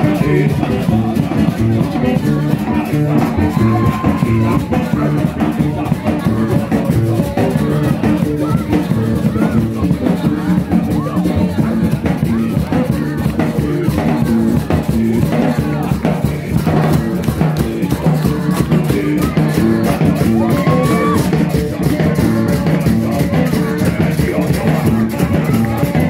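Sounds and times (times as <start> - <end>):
bass: 0.0 - 26.0
drums: 0.0 - 26.0
guitar: 0.0 - 26.0.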